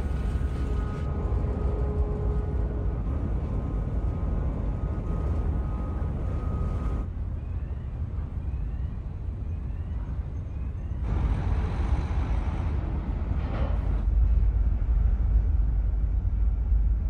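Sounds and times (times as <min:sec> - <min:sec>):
low rumble of ship machinery: 0:00.0 - 0:17.0.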